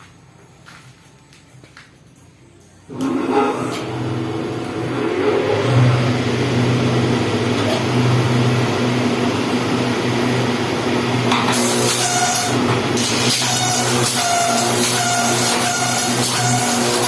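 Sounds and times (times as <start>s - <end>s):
planer machine motor whirring: 2.9s - 17.0s.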